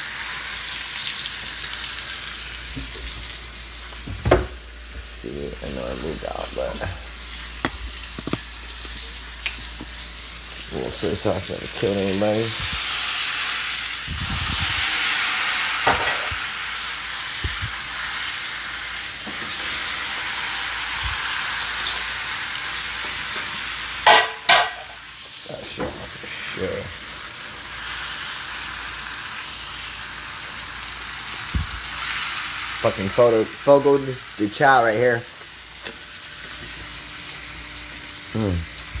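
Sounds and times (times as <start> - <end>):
meat sizzling in a skillet: 0.0 - 5.0, 5.9 - 39.0.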